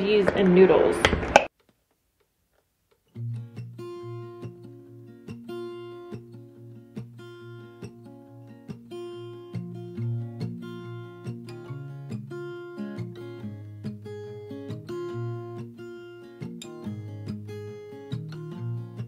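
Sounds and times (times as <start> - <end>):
acoustic guitar music: 2.9 - 19.0.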